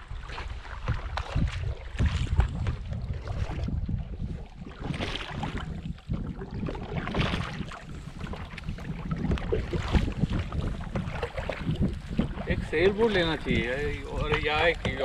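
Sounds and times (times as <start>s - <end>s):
paddle splashing in water: 0.0s - 15.0s
wind rumble on microphone: 0.0s - 15.0s.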